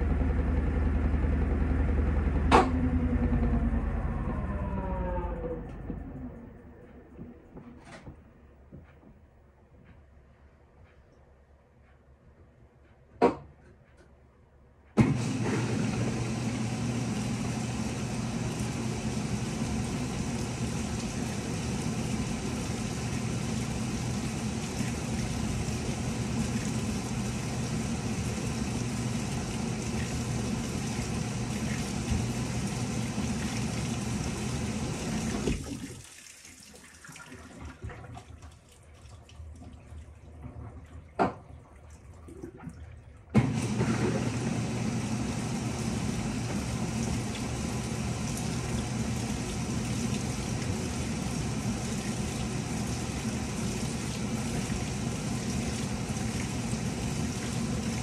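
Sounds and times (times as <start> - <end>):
water streaming into washing machine: 0.0 - 8.2, 15.0 - 58.0
washing machine motor hum: 0.0 - 11.0, 14.9 - 36.1, 36.8 - 58.0.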